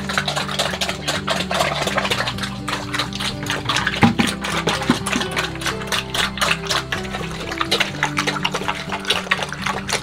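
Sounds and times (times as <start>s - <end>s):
background music with quick rhythm: 0.0s - 10.0s.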